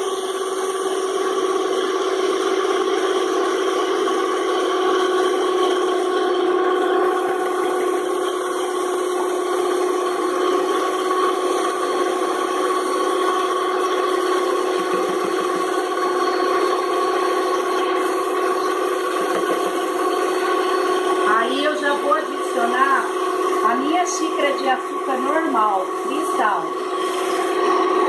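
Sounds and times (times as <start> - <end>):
stand mixer motor whining: 0.0 - 28.0.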